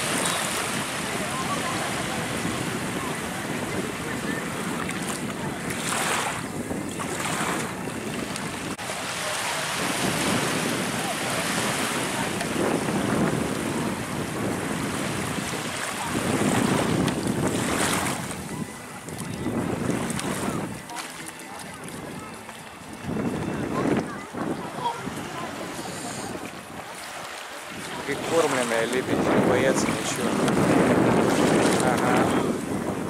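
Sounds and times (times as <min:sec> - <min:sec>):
surf washing in: 0:00.0 - 0:22.2, 0:22.8 - 0:33.0
wind buffeting microphone: 0:00.0 - 0:33.0.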